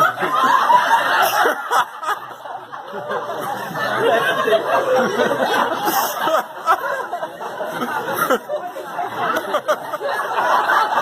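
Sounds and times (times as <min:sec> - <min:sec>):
indistinct chatter: 0:00.0 - 0:11.0
people laughing: 0:00.0 - 0:11.0.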